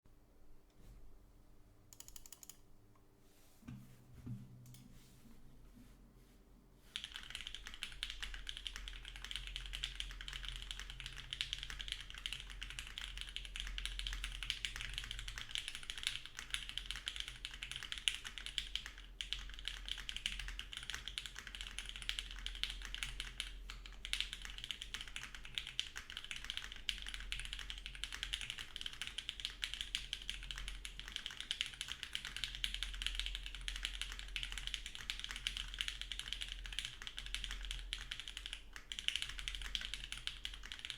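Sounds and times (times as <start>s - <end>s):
fast typing on mechanical keyboard: 6.9s - 40.9s.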